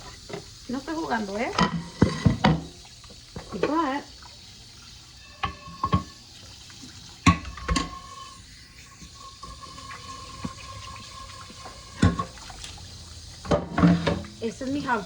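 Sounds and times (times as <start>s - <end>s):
tap running into sink: 0.0s - 15.0s.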